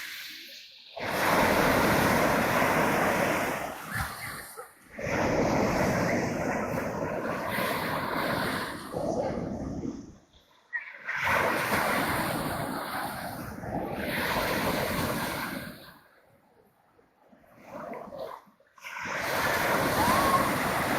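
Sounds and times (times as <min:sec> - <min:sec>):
sea waves washing onto shore: 0:00.0 - 0:10.2, 0:10.8 - 0:16.0, 0:17.5 - 0:20.9.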